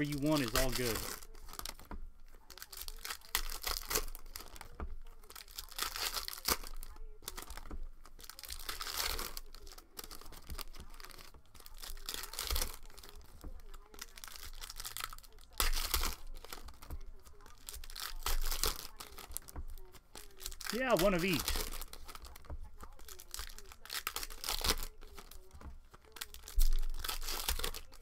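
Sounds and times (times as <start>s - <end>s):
cards being handled: 0.0s - 28.0s
plastic wrappers crinkling and tearing: 0.0s - 28.0s.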